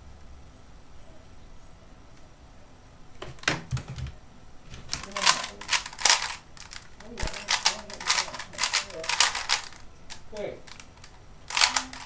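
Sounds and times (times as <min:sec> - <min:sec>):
low steady room hiss: 0:00.0 - 0:12.0.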